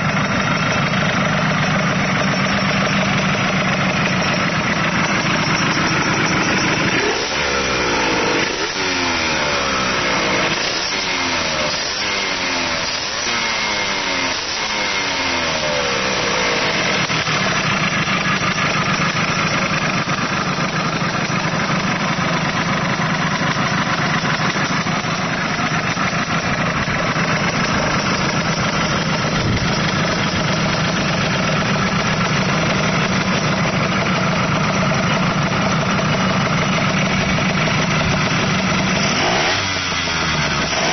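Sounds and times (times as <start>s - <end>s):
two-stroke engine revving and idling: 0.0s - 40.9s.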